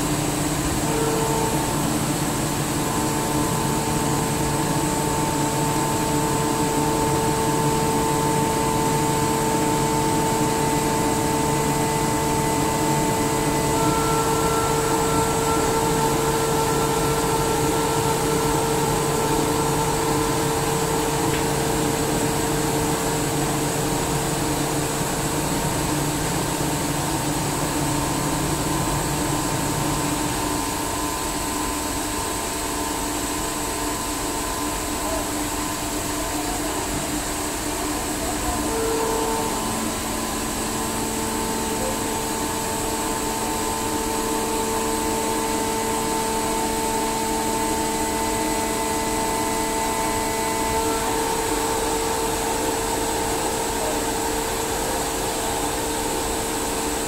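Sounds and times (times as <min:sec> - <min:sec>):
air compressor running: 0:00.0 - 0:57.0
constant machine whine: 0:00.0 - 0:57.0.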